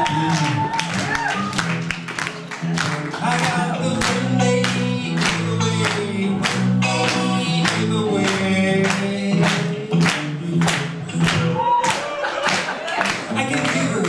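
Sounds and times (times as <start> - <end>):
acoustic guitars strumming blues: 0.0 - 11.6, 12.5 - 14.0.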